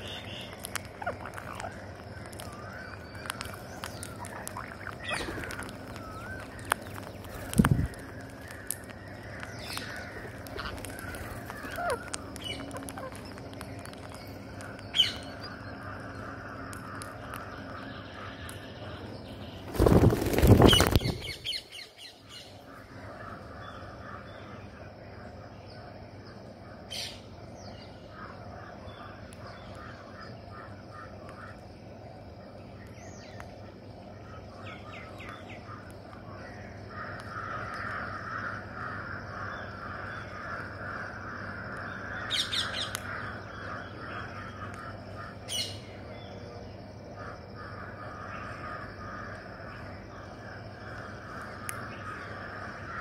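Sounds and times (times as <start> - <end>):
loud harsh bird calls: 0.0 - 24.8, 33.0 - 53.0
rapid bird chatter: 0.0 - 53.0.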